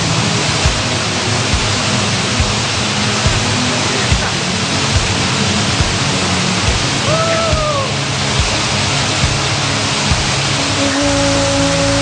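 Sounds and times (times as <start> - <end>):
background music with low thumps: 0.0 - 12.0
waterfall rushing: 0.0 - 12.0.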